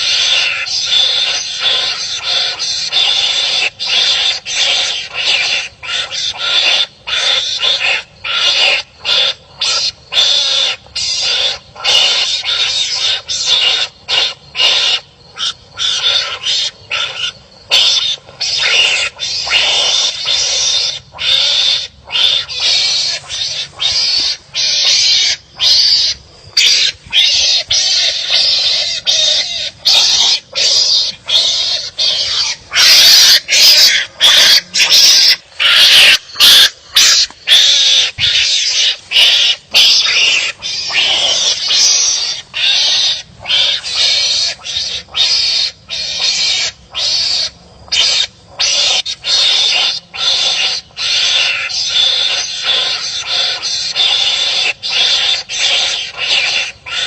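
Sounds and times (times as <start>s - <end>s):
animals fighting with rasping calls: 0.0s - 57.0s.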